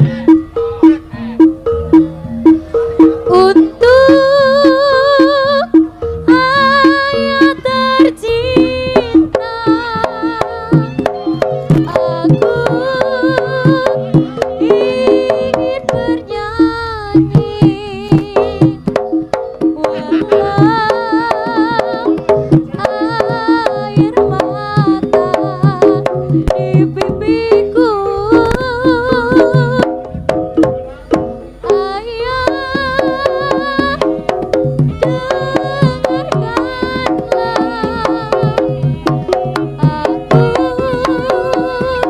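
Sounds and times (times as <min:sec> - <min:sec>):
gamelan music: 0:00.0 - 0:42.0
rapid hand-drum strokes: 0:00.0 - 0:42.0.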